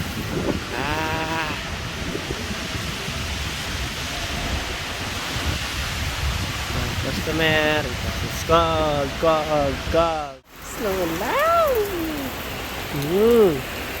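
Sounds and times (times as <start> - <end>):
wind gusts buffeting microphone: 0.0 - 12.8
steady rain: 0.0 - 14.0.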